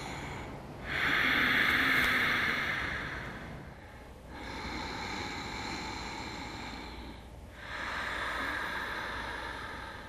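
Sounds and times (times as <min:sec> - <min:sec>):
slow noisy breathing through nose: 0:00.0 - 0:10.0.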